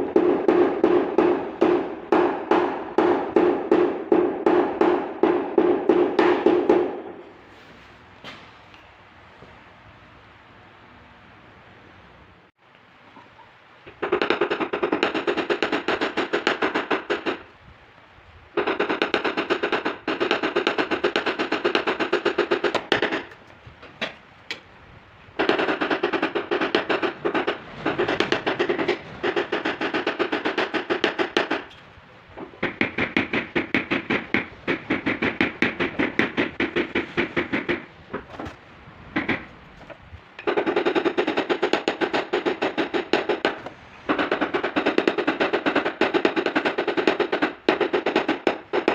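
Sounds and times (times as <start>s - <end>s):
hammer tapping sheet metal: 0.0s - 7.2s, 13.9s - 17.5s, 18.6s - 24.7s, 25.4s - 38.6s, 39.2s - 48.9s.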